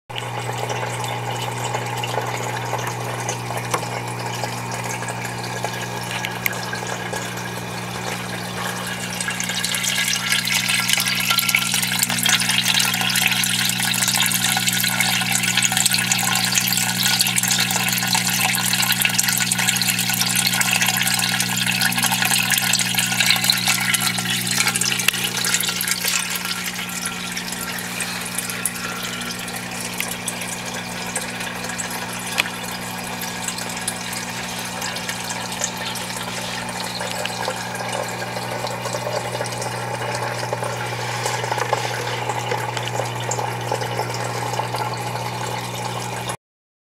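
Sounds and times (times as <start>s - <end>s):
water splashing and bubbling: 0.1s - 46.4s.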